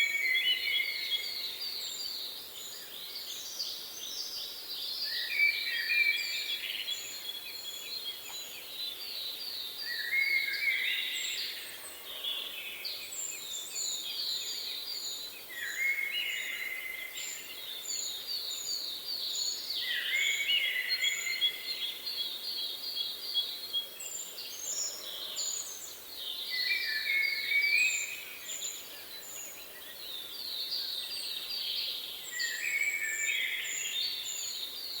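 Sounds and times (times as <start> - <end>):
songbirds singing: 0.0 - 35.0.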